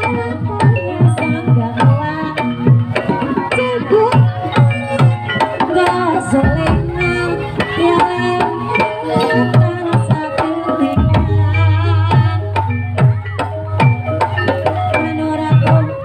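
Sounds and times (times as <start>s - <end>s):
hand drums playing a beat: 0.0s - 16.0s
ringing metallophone notes: 0.0s - 16.0s.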